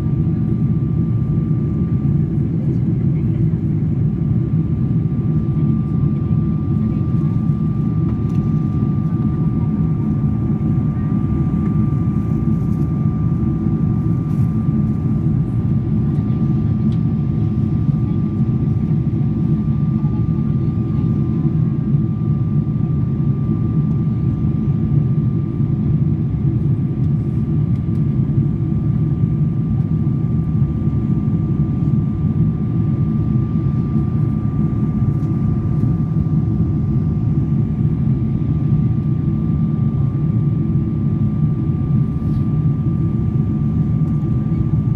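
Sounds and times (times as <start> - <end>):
airliner engine roar: 0.0 - 44.9.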